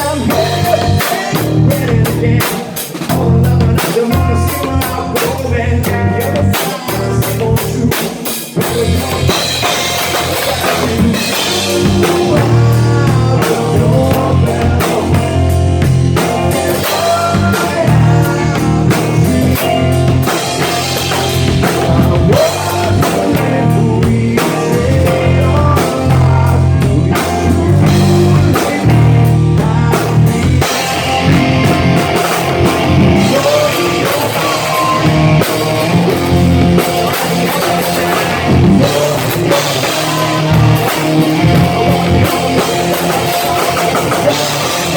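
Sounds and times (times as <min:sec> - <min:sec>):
driving drum kit: 0:00.0 - 0:44.9
guitar: 0:00.0 - 0:44.9
live rock band playing: 0:00.0 - 0:44.9.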